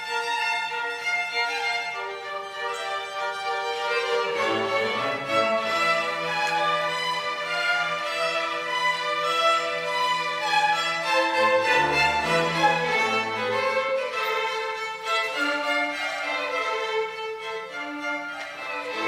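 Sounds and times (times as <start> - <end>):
violin melody: 0.0 - 19.0.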